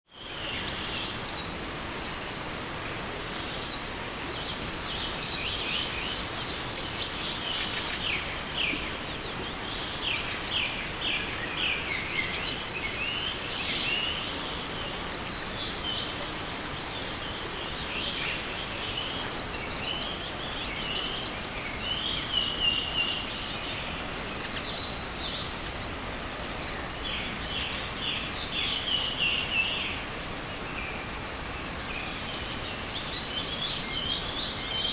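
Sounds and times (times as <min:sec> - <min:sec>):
river rushing: 0:00.1 - 0:34.9
songbirds chirping: 0:00.1 - 0:34.9.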